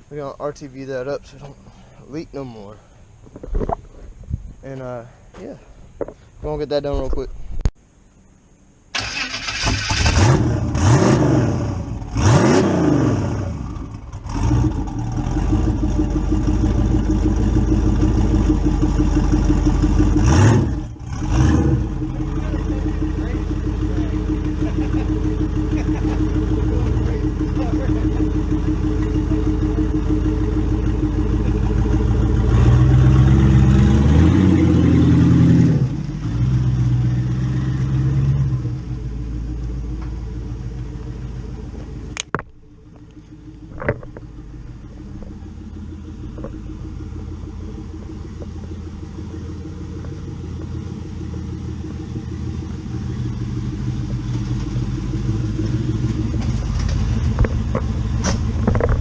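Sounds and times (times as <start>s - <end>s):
car engine revving: 9.0s - 59.0s.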